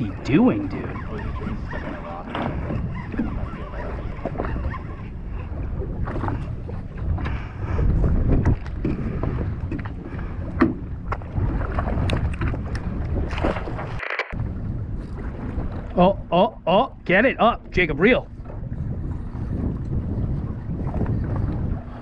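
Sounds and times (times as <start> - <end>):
wind and water rumble: 0.0 - 22.0.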